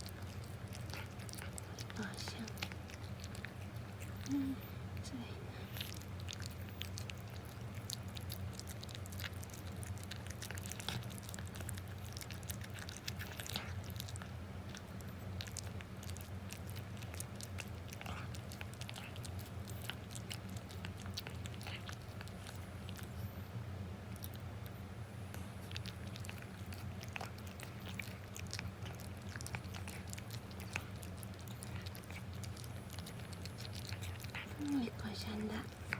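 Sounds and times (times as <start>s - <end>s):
cat chewing and licking: 0.0s - 35.9s
steady low hum: 0.0s - 35.9s.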